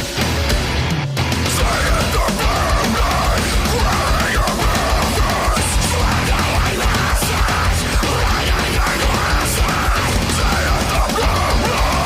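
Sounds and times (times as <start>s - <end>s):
bass guitar: 0.0s - 12.0s
distorted guitars: 0.0s - 12.0s
drums: 0.0s - 12.0s.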